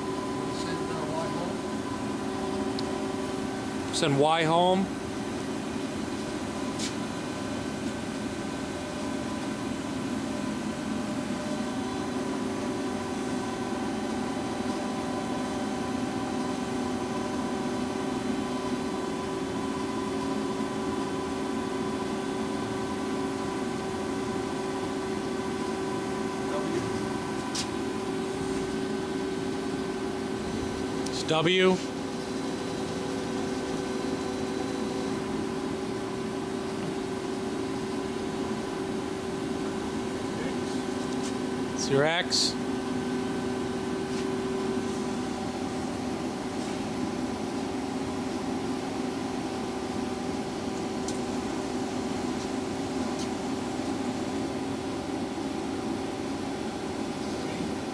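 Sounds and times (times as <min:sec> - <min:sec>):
boring mill humming: 0:00.0 - 0:57.9.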